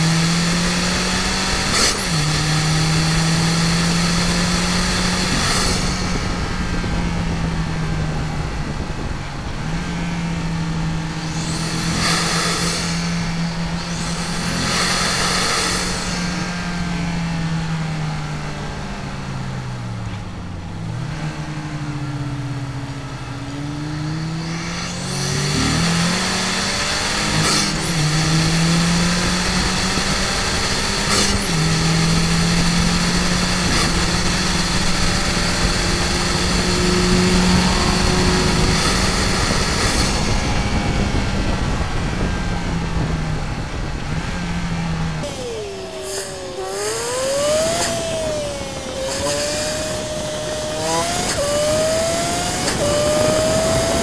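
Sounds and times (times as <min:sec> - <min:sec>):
loud rushing noise: 0:00.0 - 0:18.6, 0:19.9 - 0:54.0
car engine running hard: 0:00.0 - 0:54.0.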